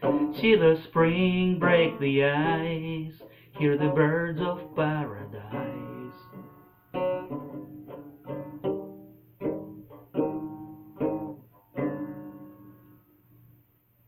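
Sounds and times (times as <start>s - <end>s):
plucked string instrument: 0.0s - 14.0s.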